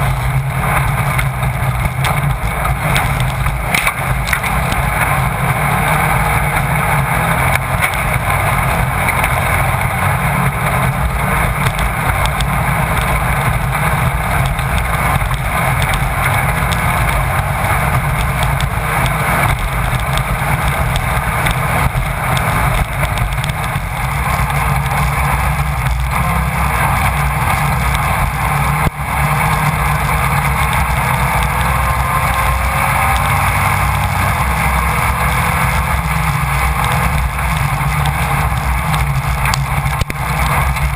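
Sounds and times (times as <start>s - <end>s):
race car engine running hard: 0.0s - 40.9s
wind noise on microphone: 0.0s - 40.9s.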